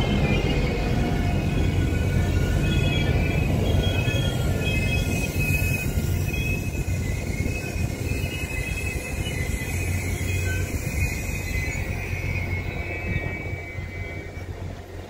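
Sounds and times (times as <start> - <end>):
train rumbling: 0.0 - 15.0
wheels squealing: 0.0 - 15.0.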